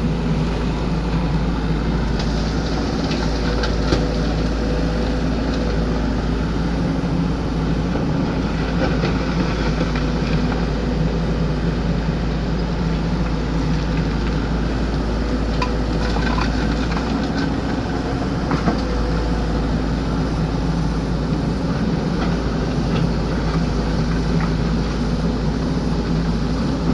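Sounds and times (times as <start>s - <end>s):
excavator engine running: 0.0s - 26.9s.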